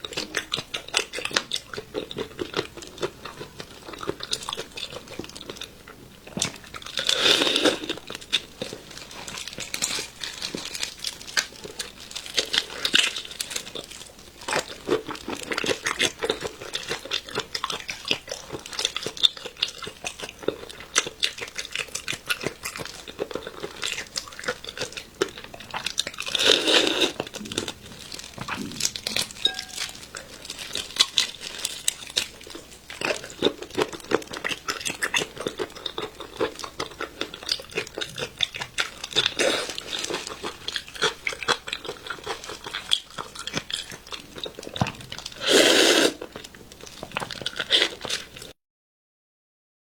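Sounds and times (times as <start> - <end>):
wet chewing of prawn shells: 0.0 - 48.5.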